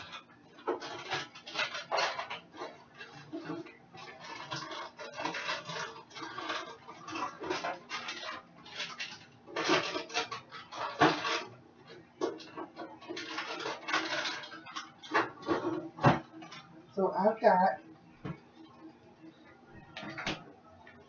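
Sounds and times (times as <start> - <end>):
packages and kitchenware clattering: 0.0 - 16.7, 19.8 - 21.0.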